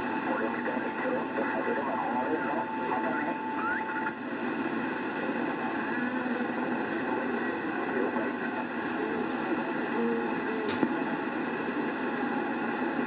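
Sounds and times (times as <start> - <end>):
radio crackles: 0.0 - 11.9
radio receiver static: 0.0 - 12.0
faint garbled radio voices: 0.0 - 13.0.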